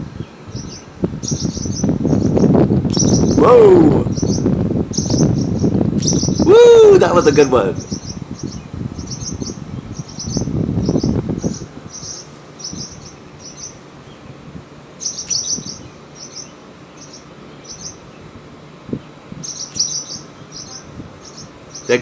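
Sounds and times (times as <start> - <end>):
birds chirping alarm calls: 0.2 - 18.4, 19.0 - 22.0.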